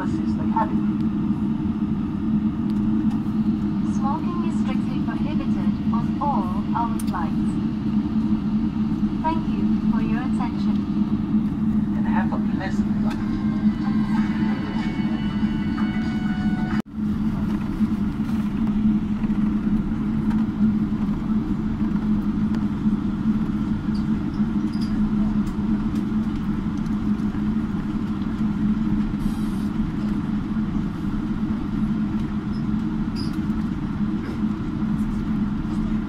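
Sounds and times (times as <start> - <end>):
low engine drone: 0.0 - 36.0.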